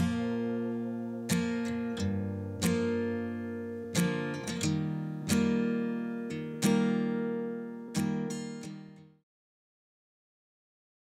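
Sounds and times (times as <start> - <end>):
acoustic guitar strummed: 0.0 - 9.2.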